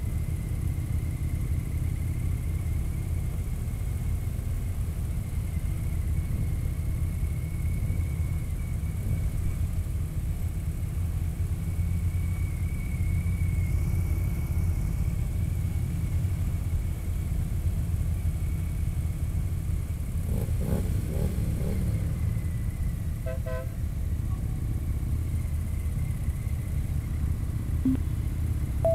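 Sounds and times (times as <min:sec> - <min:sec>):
motorcycle engine rumble: 0:00.0 - 0:28.9.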